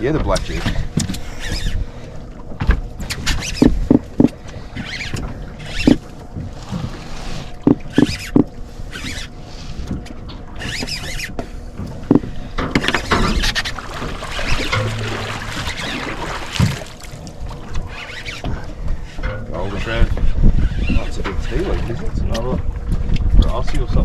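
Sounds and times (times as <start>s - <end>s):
hollow knocks on a boat: 0.0s - 1.8s, 2.4s - 9.2s, 9.8s - 24.0s.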